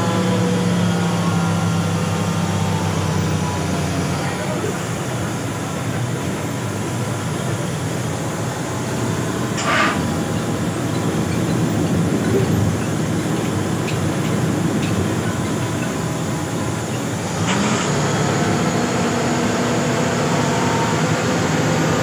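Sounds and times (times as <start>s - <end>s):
vehicle engine and tyre rumble: 0.0s - 22.0s.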